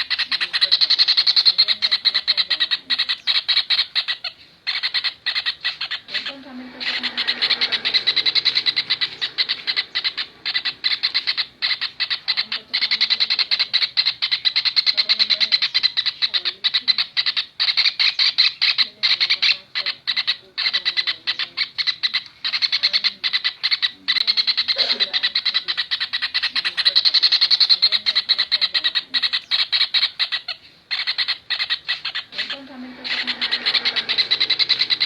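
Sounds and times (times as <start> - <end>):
kingfisher trilling calls: 0.0 - 16.2, 17.0 - 35.0.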